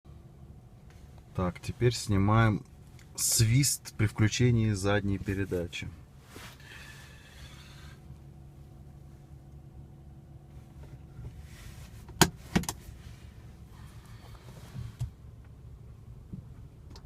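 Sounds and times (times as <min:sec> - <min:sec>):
car engine hum in cabin: 0:00.1 - 0:17.0.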